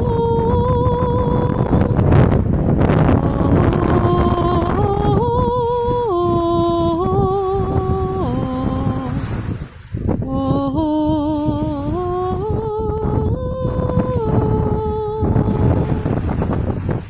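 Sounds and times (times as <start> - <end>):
person humming wordless notes: 0.0 - 9.5, 10.2 - 17.0
sea surf: 0.0 - 17.0
wind: 0.0 - 17.0.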